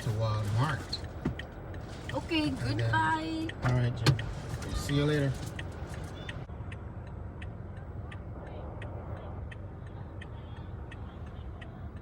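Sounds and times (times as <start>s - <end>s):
turn signal clicking: 1.1s - 12.0s.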